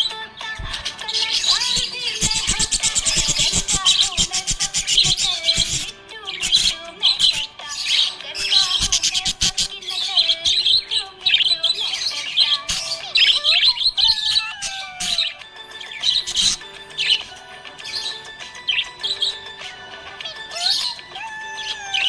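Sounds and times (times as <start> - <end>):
background music: 0.0 - 22.0
budgerigars chirping: 0.0 - 22.0.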